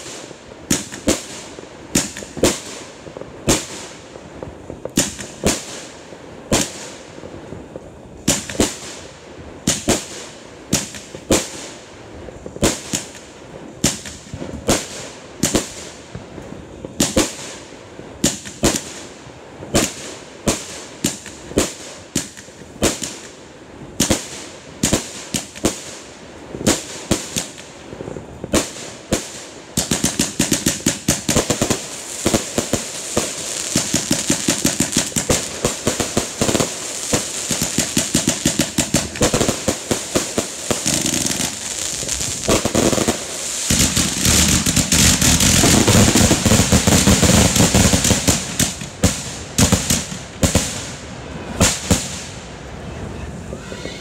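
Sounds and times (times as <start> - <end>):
rapid barrage of firework bangs: 0.0 - 52.5
fireworks launching and bursting: 0.0 - 54.0.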